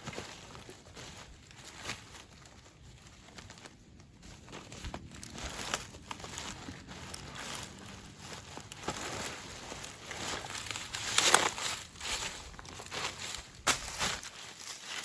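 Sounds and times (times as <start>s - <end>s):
dry material crinkling: 0.0s - 15.0s.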